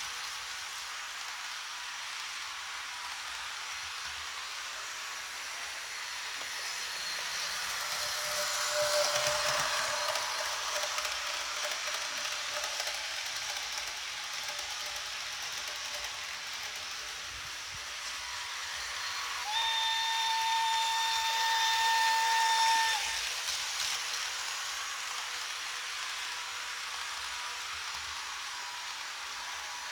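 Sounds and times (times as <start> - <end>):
model locomotive hissing: 0.0 - 29.9.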